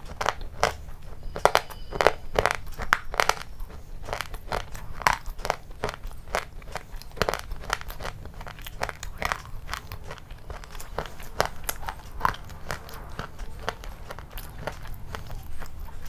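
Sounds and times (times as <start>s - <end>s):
chewing crunchy food: 0.0s - 16.0s.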